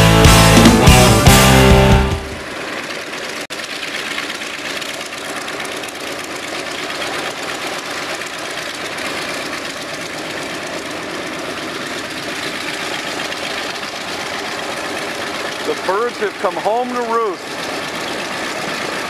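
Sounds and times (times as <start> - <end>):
radial aircraft engine idling: 0.0 - 19.0.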